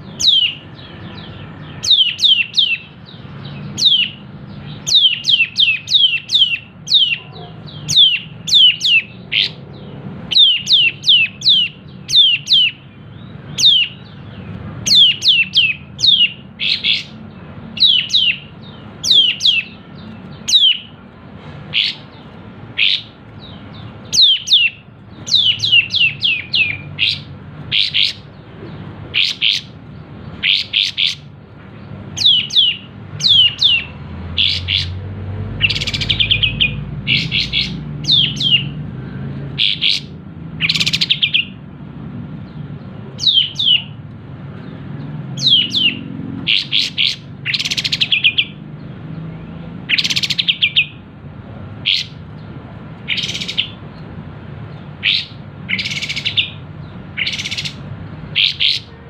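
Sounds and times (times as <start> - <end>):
bulbul calling: 0.0 - 21.0, 21.7 - 31.4, 32.1 - 35.0, 35.6 - 38.8, 39.6 - 41.6, 43.2 - 44.0, 45.4 - 48.6, 49.9 - 51.0, 51.8 - 52.3, 53.0 - 54.0, 54.9 - 59.0.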